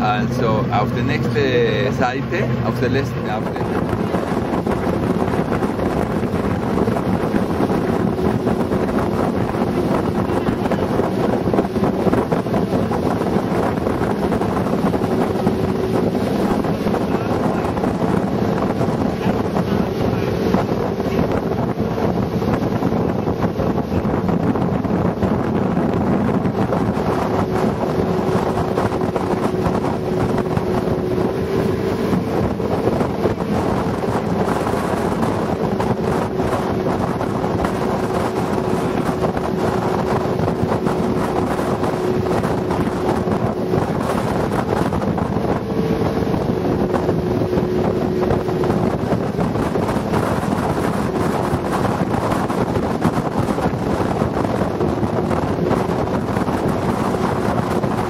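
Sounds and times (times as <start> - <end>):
motorboat engine running: 0.0 - 58.0
water rushing along hull: 0.0 - 58.0
wind buffeting microphone: 0.0 - 58.0.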